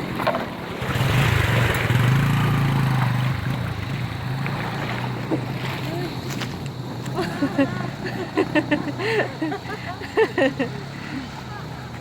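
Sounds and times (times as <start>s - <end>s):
engine humming and hissing: 0.0s - 12.0s.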